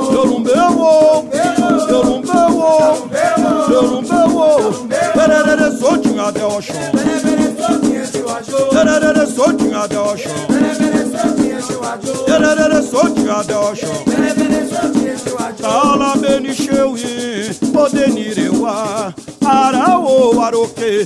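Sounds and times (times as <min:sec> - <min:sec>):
voices singing a sacred song: 0:00.0 - 0:20.4
shaken rattle: 0:00.0 - 0:21.0.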